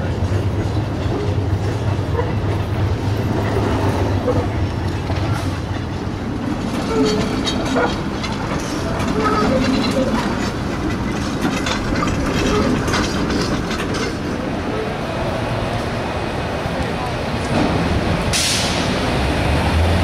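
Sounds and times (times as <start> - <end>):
streetcar wheels clicking on rails: 0.0 - 20.0.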